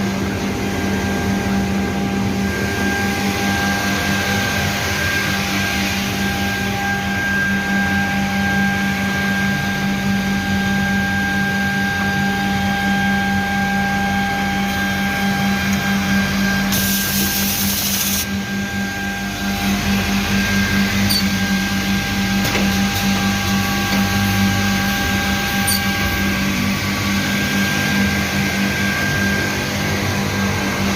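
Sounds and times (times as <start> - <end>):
machine motors humming and whining: 0.0 - 30.9.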